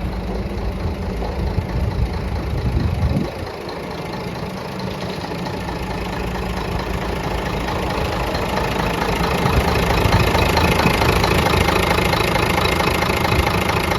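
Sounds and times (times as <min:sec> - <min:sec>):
truck diesel engine running: 0:00.0 - 0:13.9.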